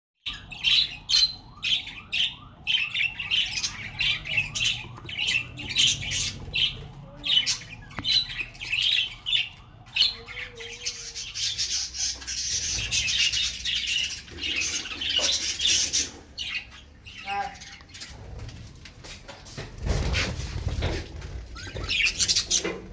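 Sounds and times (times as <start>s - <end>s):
budgerigars squawking and chattering: 0.3s - 18.3s, 21.5s - 22.9s.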